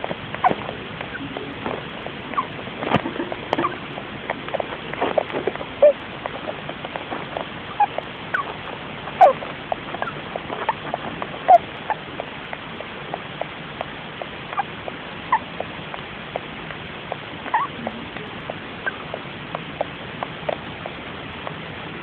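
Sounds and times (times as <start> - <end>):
hamster squeaking: 0.0 - 16.5, 17.1 - 21.0
background hiss: 0.0 - 22.0.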